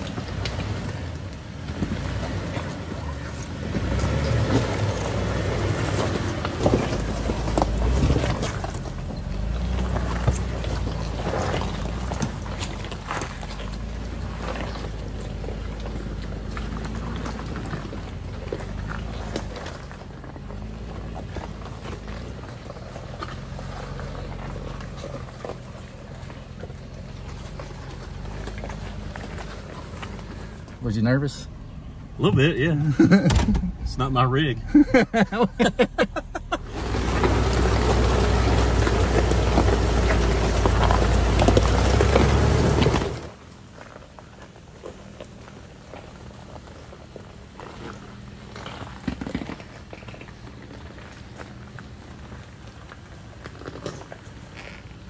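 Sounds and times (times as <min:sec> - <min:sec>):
engine running low: 0:00.0 - 0:55.0
tyres crunching over rocks: 0:00.0 - 0:55.0.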